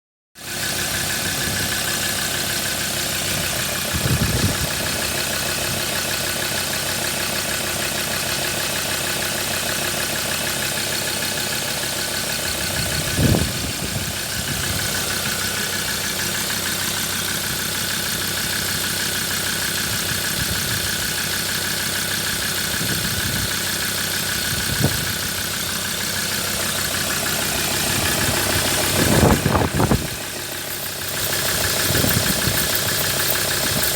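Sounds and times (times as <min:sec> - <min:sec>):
diesel engine idling: 0:00.4 - 0:33.9.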